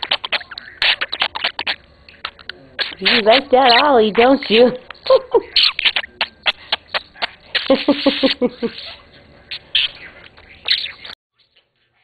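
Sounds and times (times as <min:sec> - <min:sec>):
budgerigar chattering: 0:00.0 - 0:11.2.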